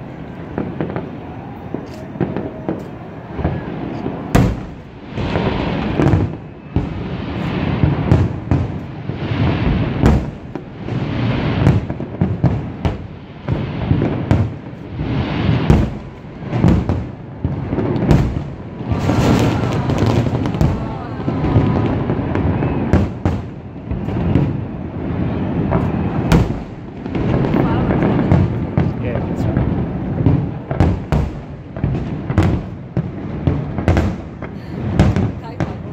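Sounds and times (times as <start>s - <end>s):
firework bangs: 0.0s - 35.9s
firework crackle: 0.0s - 35.9s.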